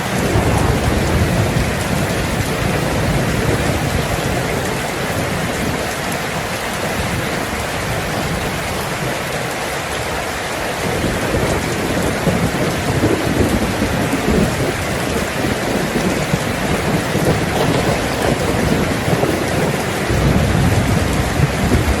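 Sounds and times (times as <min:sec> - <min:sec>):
rolling thunder: 0:00.0 - 0:09.3, 0:10.7 - 0:22.0
heavy rain on a tin roof: 0:00.0 - 0:22.0.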